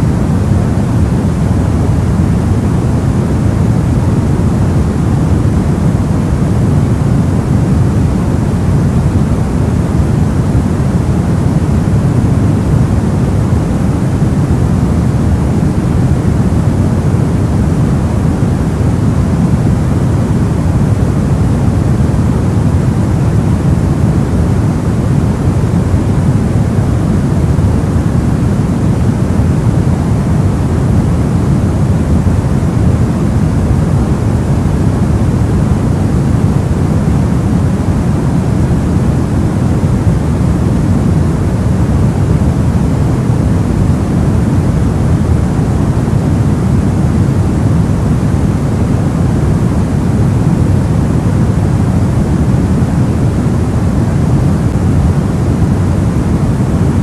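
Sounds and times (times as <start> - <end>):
deep white noise hiss: 0.0 - 57.0.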